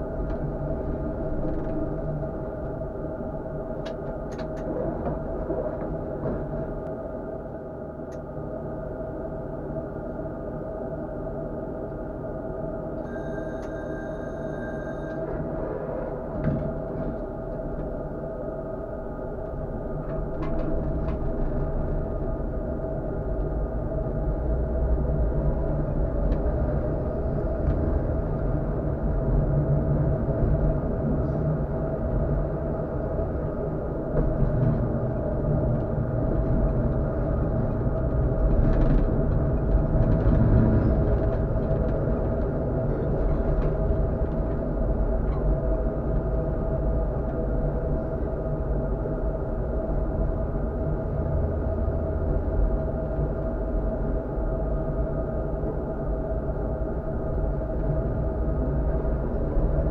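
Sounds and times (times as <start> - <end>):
tram wheels rumbling on rails: 0.0 - 8.8, 13.0 - 59.9
constant whine: 0.0 - 59.9.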